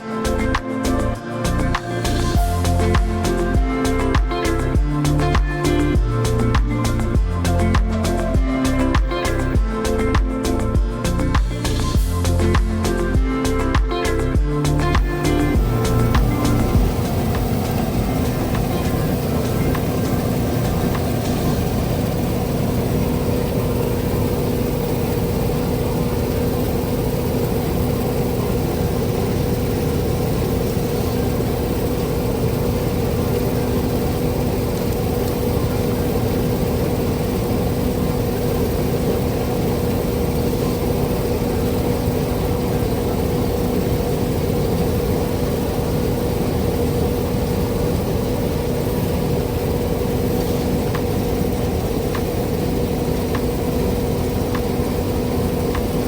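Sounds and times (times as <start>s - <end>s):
farm machinery engine humming: 0.0s - 56.0s.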